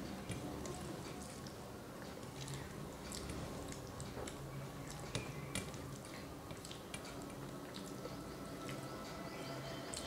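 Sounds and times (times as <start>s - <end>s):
chewing with mouth clicks: 0.6s - 8.9s.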